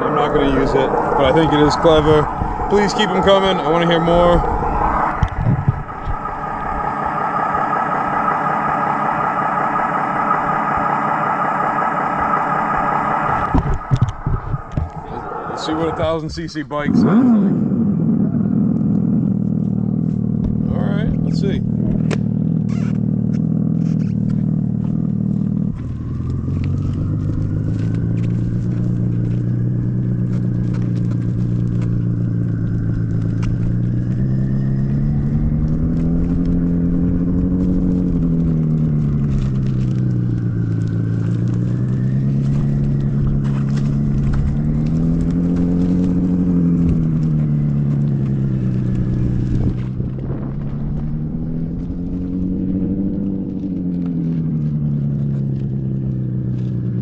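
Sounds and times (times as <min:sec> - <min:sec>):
simulated motorcycle engine sound: 0:00.0 - 0:57.0.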